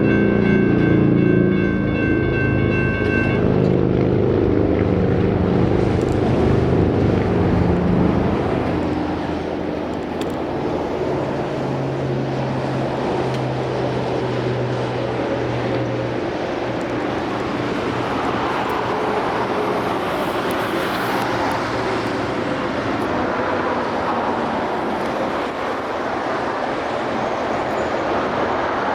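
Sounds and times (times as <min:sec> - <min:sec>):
low rumble of passing train: 0:00.0 - 0:28.9
diesel engine hum: 0:03.1 - 0:28.9.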